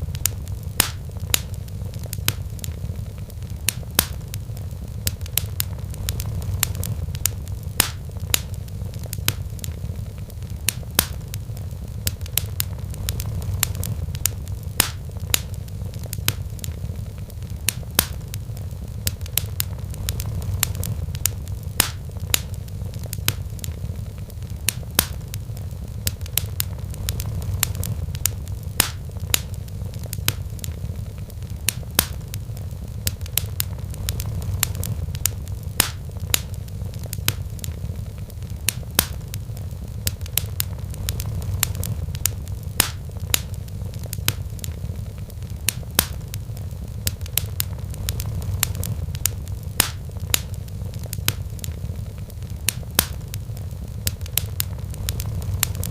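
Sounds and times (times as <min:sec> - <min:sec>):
steady low rumble: 0:00.0 - 0:55.9
wood fire crackling: 0:00.0 - 0:55.9.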